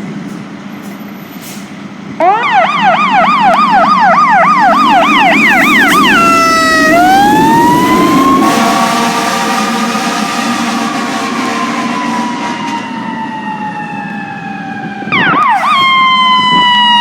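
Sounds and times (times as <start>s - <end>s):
fire truck siren: 2.1s - 17.0s.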